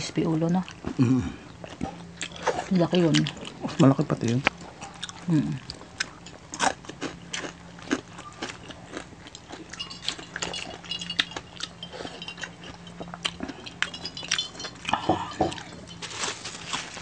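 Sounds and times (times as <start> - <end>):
faint steady hum: 0.0 - 17.0
wet chewing and lip-smacking: 0.6 - 16.0.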